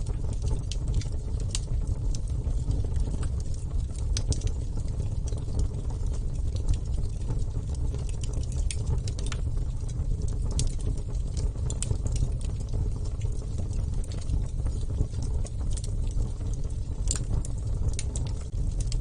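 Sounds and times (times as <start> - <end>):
burning wood crackling and popping: 0.0 - 19.0
fire flames rumbling: 0.0 - 19.0.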